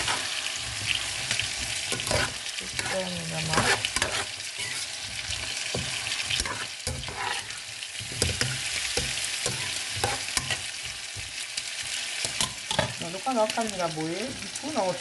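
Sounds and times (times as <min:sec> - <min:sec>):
spoon scraping and tapping pan: 0:00.0 - 0:11.4, 0:12.2 - 0:13.0
vegetables sizzling in oil: 0:00.0 - 0:15.0.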